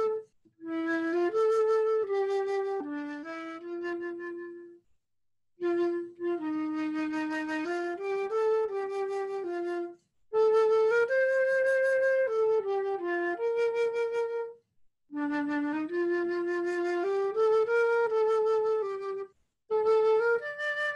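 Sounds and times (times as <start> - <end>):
flute-like woodwind hymn melody: 0.0 - 4.8, 5.6 - 20.9.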